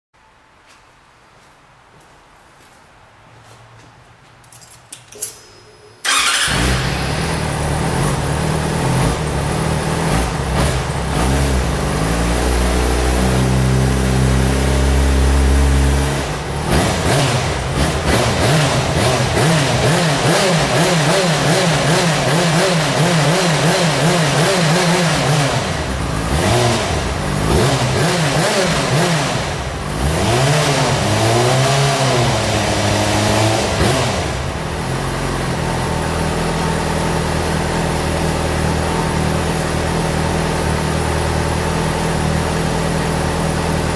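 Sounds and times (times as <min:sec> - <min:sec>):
motorcycle engine revving: 0:06.0 - 0:43.9.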